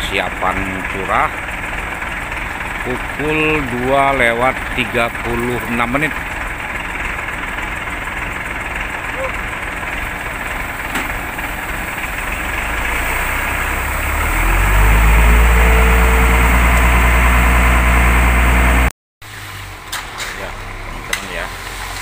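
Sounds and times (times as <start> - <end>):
diesel truck engines running: 0.0 - 22.0.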